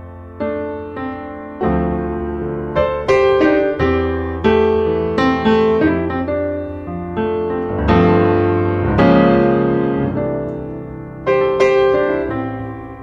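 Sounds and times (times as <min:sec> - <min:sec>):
piano chords ringing: 0:00.0 - 0:13.0.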